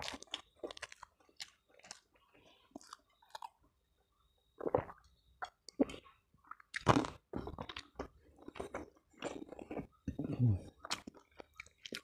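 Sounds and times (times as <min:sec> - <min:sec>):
wet chewing: 0:00.0 - 0:03.6, 0:04.6 - 0:12.0.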